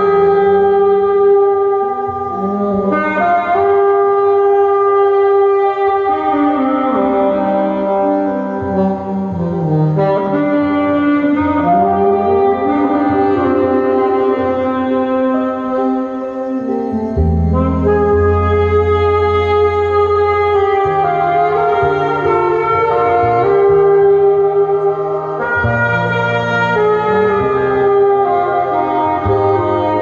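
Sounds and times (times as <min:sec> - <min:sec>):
lower accompaniment: 0:00.0 - 0:30.0
saxophones playing melody: 0:00.0 - 0:30.0.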